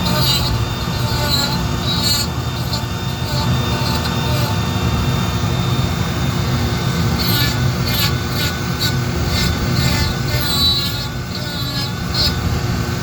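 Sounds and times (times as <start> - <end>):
power tool cutting wood: 0.0 - 13.0.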